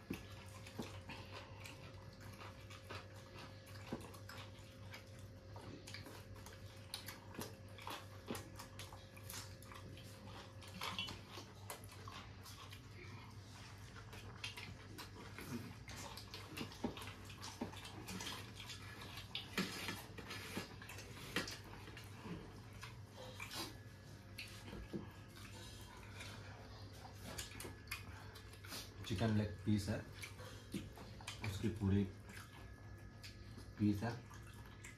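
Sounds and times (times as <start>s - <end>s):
low steady hum: 0.0s - 34.9s
wet chewing and lip-smacking: 0.0s - 34.9s.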